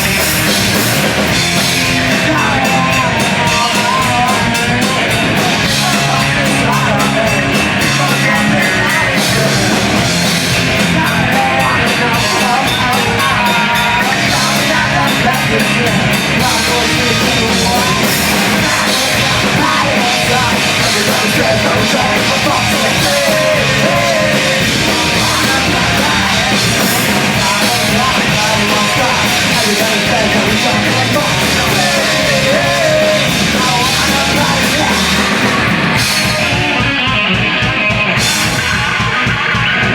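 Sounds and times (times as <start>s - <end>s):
live band playing loud music: 0.0s - 39.9s.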